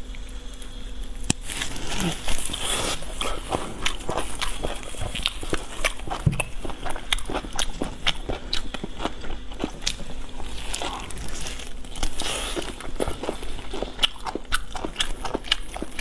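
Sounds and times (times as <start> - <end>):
chewing and lip smacking: 2.2 - 16.0.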